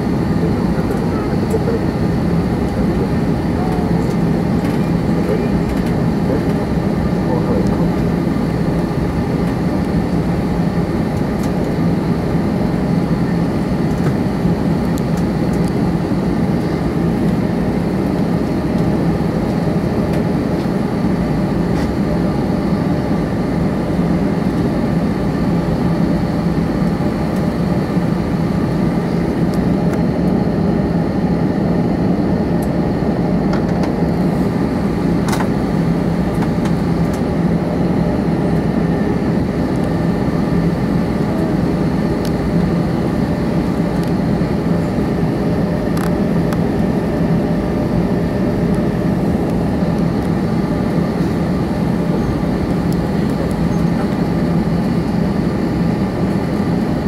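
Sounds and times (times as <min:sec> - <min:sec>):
aircraft engine hum: 0:00.0 - 0:57.0.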